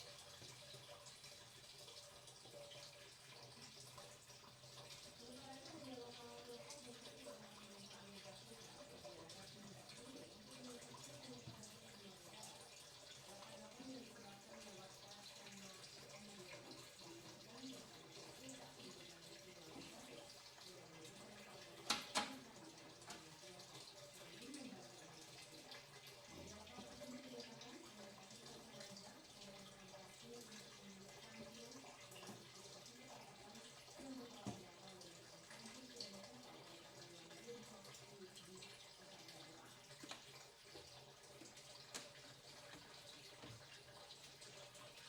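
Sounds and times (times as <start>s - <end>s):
faint water sounds: 0.0s - 45.0s.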